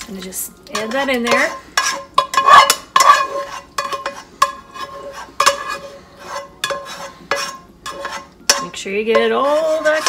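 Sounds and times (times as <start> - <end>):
spatula scraping frying pan: 0.0 - 10.0.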